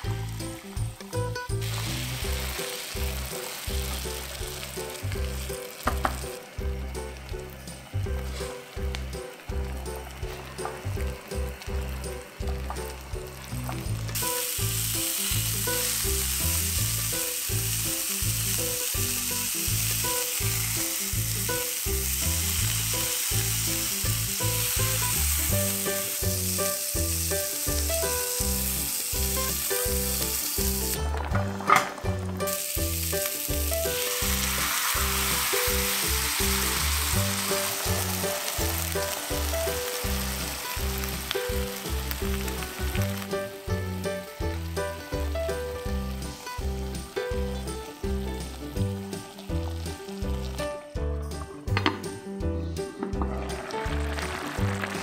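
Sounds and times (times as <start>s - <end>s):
food sizzling in oil: 0.0s - 50.8s, 53.2s - 55.0s
music with steady bass beat: 0.0s - 55.0s.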